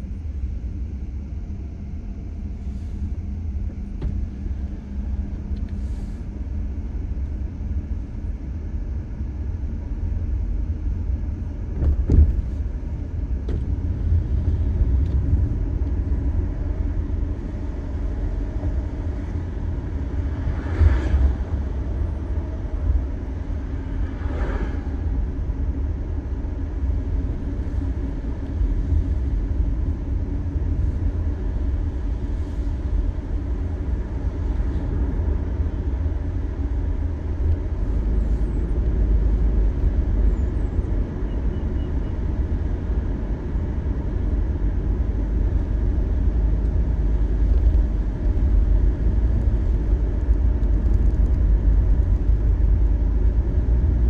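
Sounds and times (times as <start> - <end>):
road and tyre noise in car: 0.0 - 54.0.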